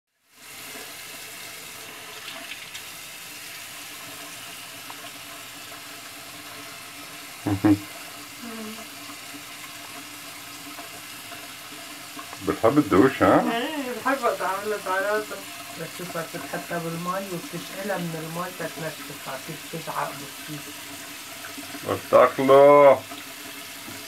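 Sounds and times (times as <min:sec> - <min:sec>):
faucet water splashing into sink: 0:00.3 - 0:24.0.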